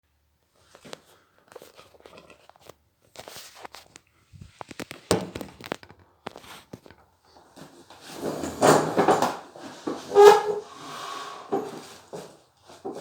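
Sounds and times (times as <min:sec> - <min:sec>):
rustling and crinkling: 0:00.4 - 0:13.0.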